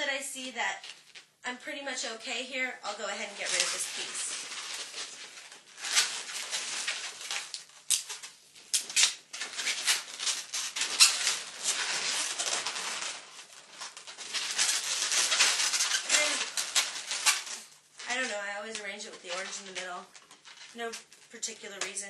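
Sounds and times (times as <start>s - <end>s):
balloons squeaking and rubbing: 3.2s - 21.4s.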